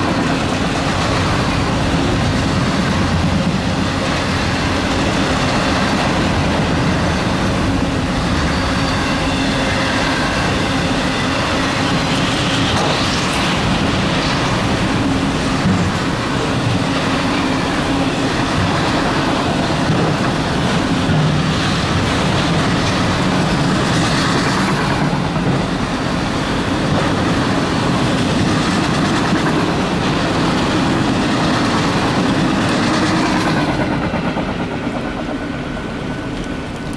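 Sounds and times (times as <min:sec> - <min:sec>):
freight train wheels on rails: 0:00.0 - 0:36.9.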